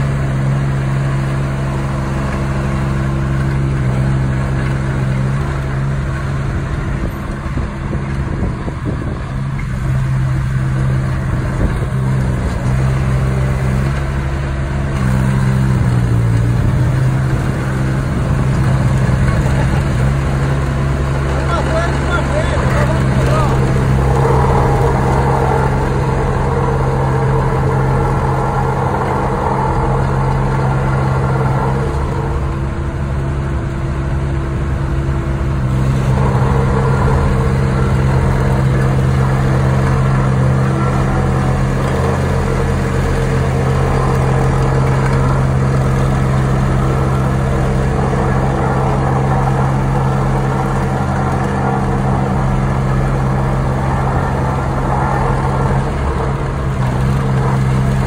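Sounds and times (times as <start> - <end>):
diesel engine running: 0.0 - 58.0
roller driving over gravel: 0.0 - 58.0.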